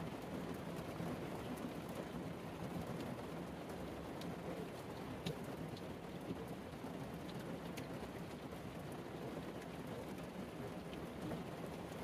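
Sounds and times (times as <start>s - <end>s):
heavy rain on a van roof: 0.0s - 12.0s.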